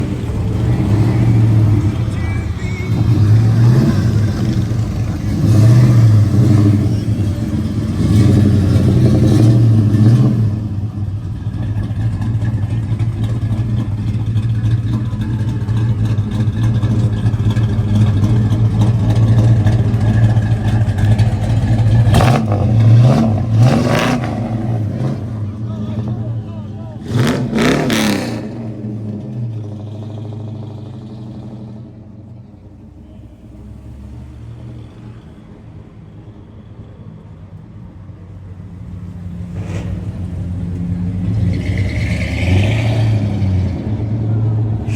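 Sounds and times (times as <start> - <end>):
engine revving: 0.0 - 26.2, 27.0 - 32.0, 38.9 - 44.9.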